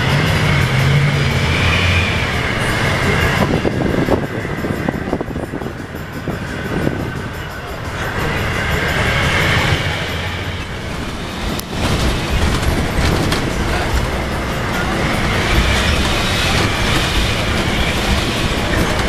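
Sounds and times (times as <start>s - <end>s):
bus engine rumble with whine: 0.0s - 19.0s.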